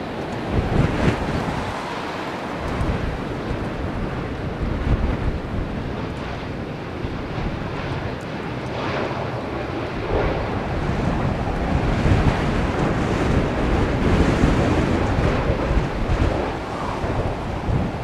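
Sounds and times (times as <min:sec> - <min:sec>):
jet engine roar: 0:00.0 - 0:18.0
wind buffeting microphone: 0:00.0 - 0:18.0.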